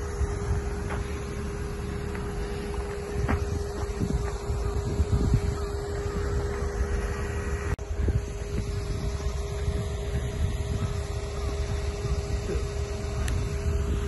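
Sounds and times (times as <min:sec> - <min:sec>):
diesel engine idling: 0:00.0 - 0:14.0
wind rumble on microphone: 0:00.0 - 0:14.0.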